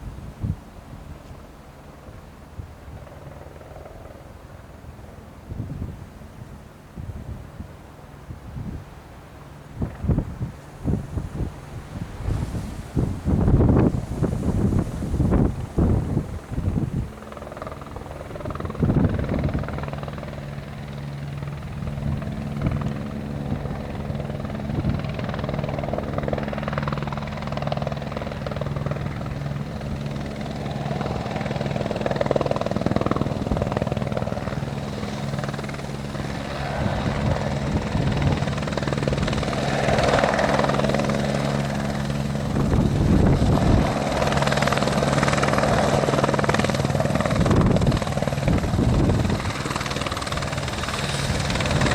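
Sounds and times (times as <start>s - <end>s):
wind buffeting microphone: 0.0s - 1.3s, 9.7s - 51.9s
helicopter rotor and engine drone: 0.0s - 51.9s.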